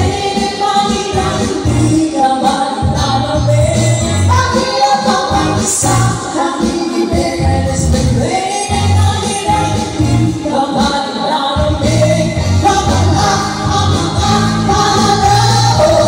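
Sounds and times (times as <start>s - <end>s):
amplified backing music: 0.0s - 16.0s
women singing into microphones: 0.0s - 16.0s.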